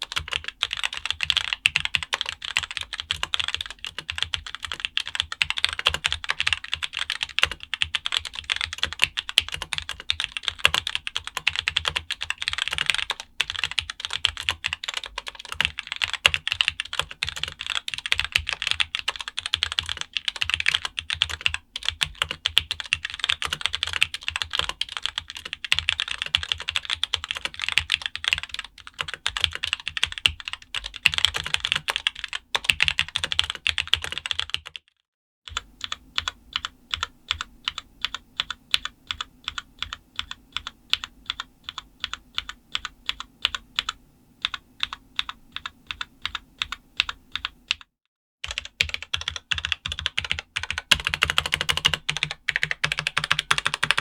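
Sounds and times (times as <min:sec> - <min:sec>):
mechanical keyboard typing: 0:00.0 - 0:34.8, 0:35.5 - 0:54.0.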